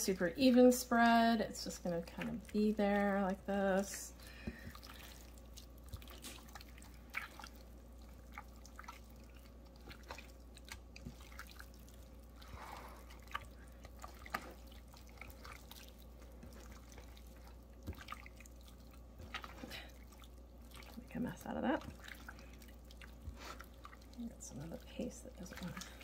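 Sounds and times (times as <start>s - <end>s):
hands squishing paste into meat: 4.4s - 21.2s, 21.8s - 26.0s.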